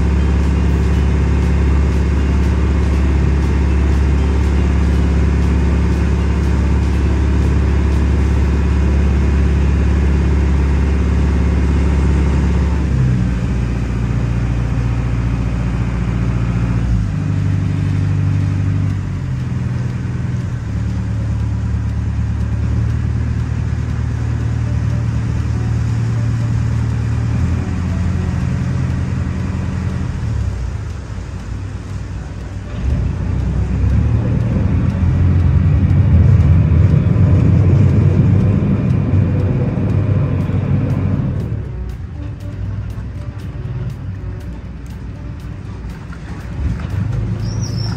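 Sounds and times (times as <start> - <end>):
ferry engine humming: 0.0 - 47.9.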